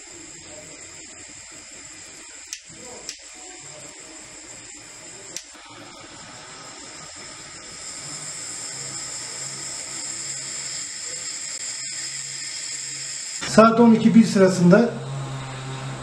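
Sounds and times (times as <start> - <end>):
gas burner flame hissing: 0.0 - 16.0.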